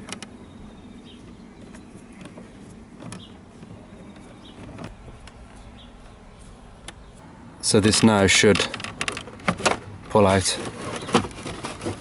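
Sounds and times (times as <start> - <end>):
low background rumble: 0.0 - 10.2.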